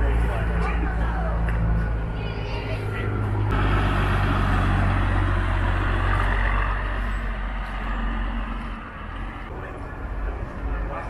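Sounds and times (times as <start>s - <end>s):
truck diesel engine passing: 0.0s - 11.0s.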